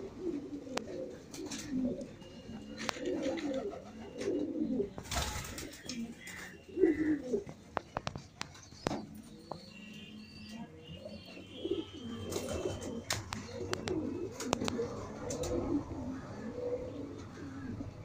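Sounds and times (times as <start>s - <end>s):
pigeons cooing: 0.0s - 10.2s, 11.0s - 18.0s.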